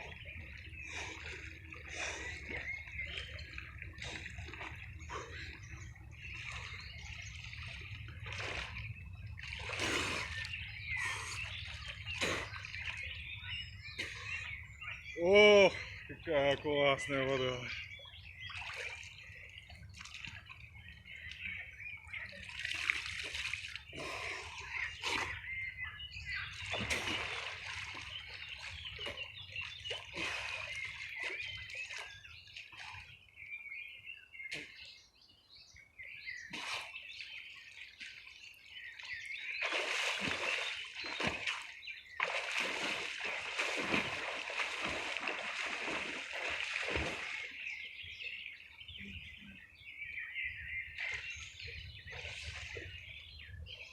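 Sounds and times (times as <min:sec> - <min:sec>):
water splashing and sloshing: 0:00.0 - 0:33.6, 0:36.4 - 0:49.6, 0:50.9 - 0:53.9.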